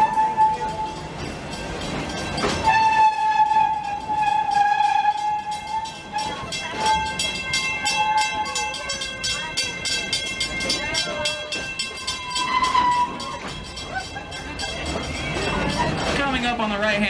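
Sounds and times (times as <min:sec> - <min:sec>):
train running on track: 0:00.0 - 0:17.0
wheels clicking over rail joints: 0:00.0 - 0:17.0.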